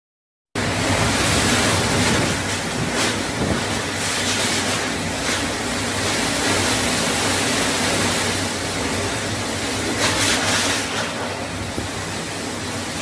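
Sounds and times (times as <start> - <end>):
driving rain: 0.6 - 13.0.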